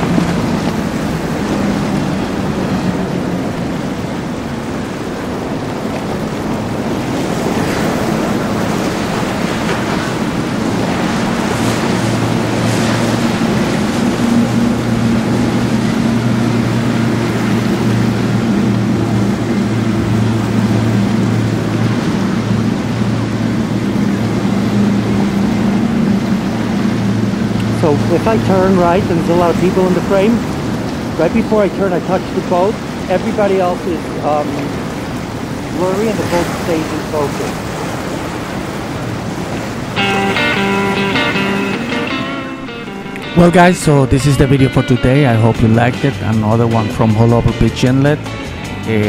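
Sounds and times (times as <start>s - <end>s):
wind on microphone: 0.0s - 46.2s
motorboat engine drone: 0.0s - 49.0s
waves washing: 0.0s - 49.0s.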